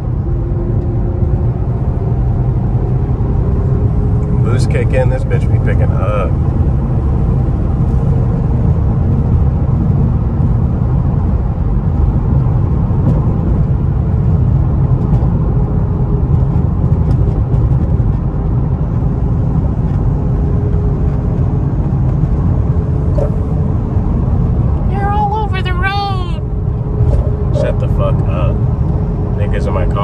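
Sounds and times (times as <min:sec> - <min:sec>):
car engine running: 0:00.0 - 0:30.0
road noise: 0:00.0 - 0:30.0.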